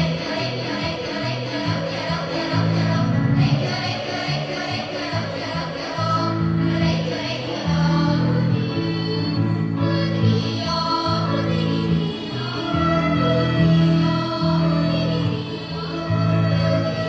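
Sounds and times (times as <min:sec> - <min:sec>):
children's choir singing: 0:00.0 - 0:17.0.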